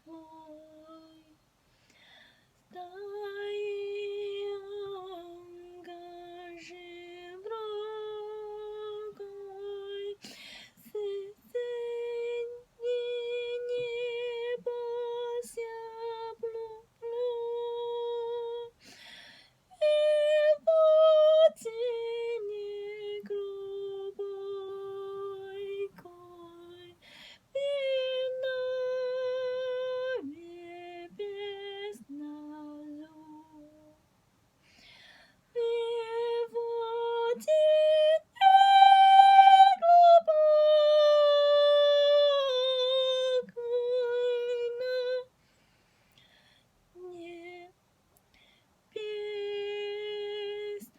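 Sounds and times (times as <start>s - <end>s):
woman singing wordless melody: 0.0s - 2.0s, 2.6s - 34.1s, 34.7s - 45.5s, 46.9s - 50.9s.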